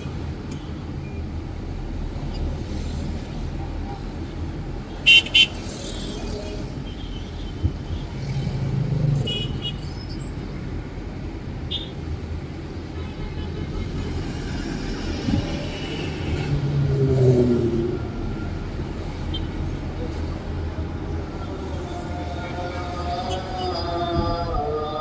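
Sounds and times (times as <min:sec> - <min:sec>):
passing cars rumbling: 0:00.0 - 0:25.0.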